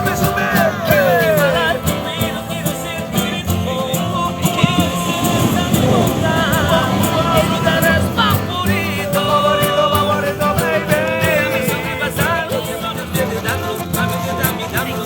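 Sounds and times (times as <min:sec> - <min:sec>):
latin pop music with steady beat: 0:00.0 - 0:15.0
person singing: 0:00.0 - 0:15.0.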